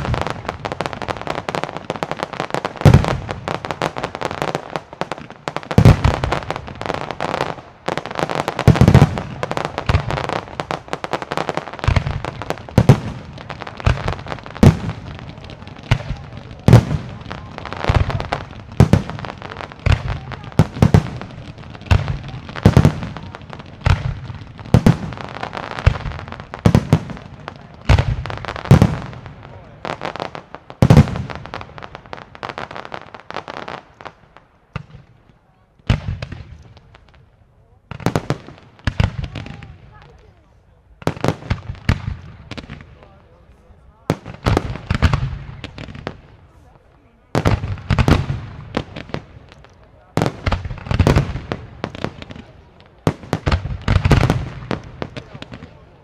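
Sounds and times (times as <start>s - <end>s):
firework shells booming: 0.0s - 35.2s, 35.8s - 37.0s, 41.0s - 43.2s, 44.0s - 46.5s, 47.3s - 56.0s
smaller firework reports: 0.0s - 56.0s.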